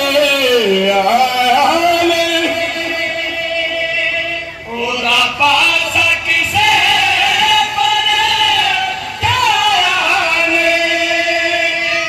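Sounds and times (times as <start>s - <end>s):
men chanting a lament through loudspeaker: 0.0s - 12.0s.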